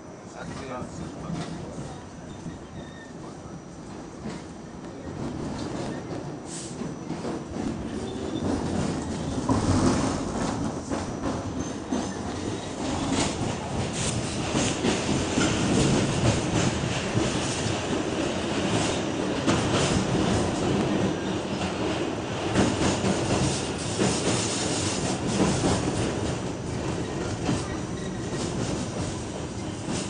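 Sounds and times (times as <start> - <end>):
subway train wheels on track: 0.0 - 30.0.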